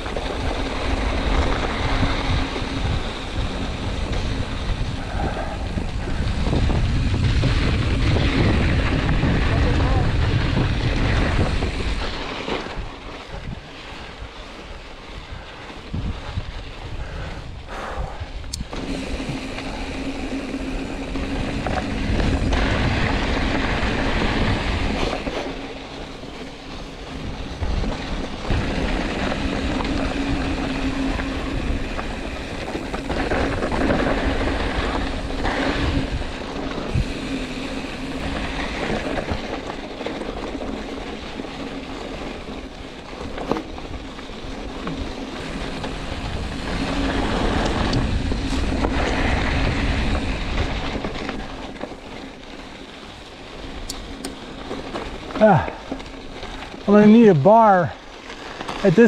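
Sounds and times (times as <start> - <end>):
wind on microphone: 0.0 - 25.8, 27.1 - 52.7
bike tyres rolling on gravel: 0.0 - 59.0.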